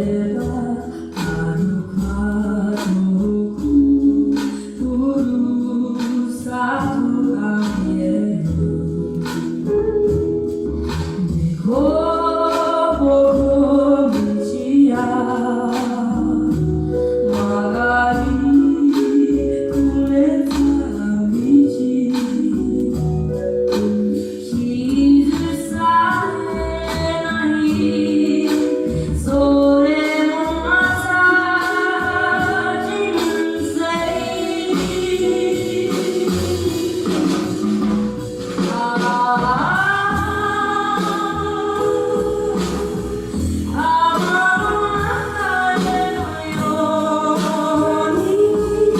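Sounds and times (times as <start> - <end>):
girl singing a ballad: 0.0 - 48.9
live band with guitar and bass: 0.0 - 48.9.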